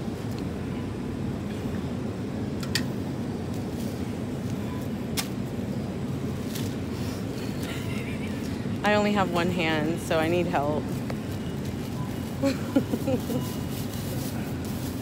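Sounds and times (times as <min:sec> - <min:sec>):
supermarket ambience rumble: 0:00.0 - 0:15.0.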